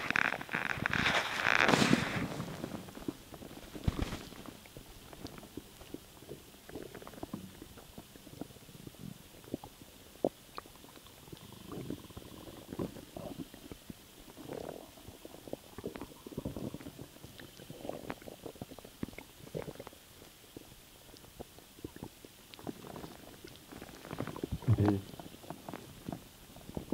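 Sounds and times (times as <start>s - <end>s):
stomach gurgling: 0.0s - 26.9s.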